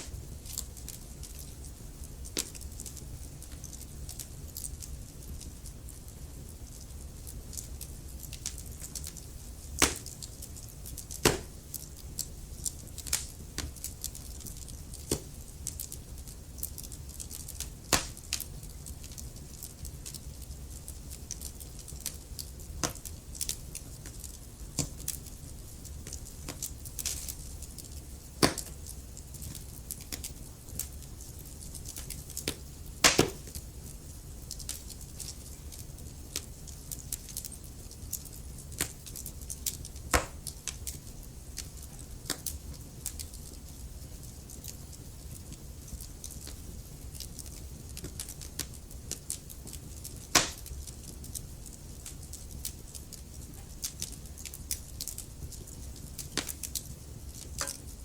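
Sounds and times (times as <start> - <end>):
fire crackling and popping: 0.0 - 58.0
low rumble of flame: 0.0 - 58.0.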